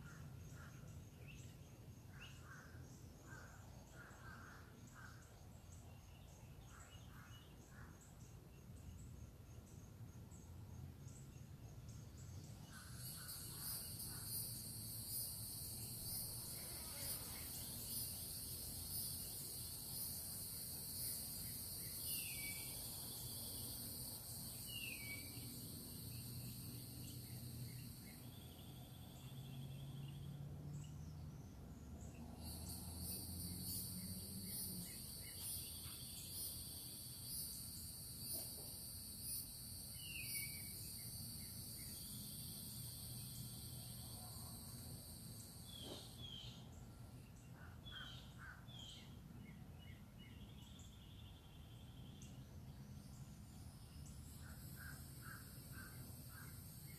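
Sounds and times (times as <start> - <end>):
bird chirping: 0.0 - 44.2, 45.2 - 56.9
insects trilling: 0.0 - 49.1, 50.2 - 56.9.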